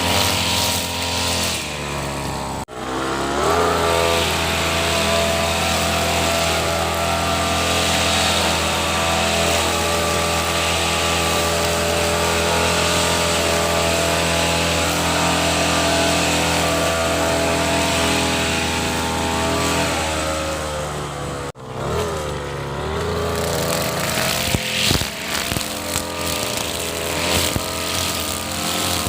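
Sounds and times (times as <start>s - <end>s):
brush cutter engine buzzing: 0.0s - 29.0s.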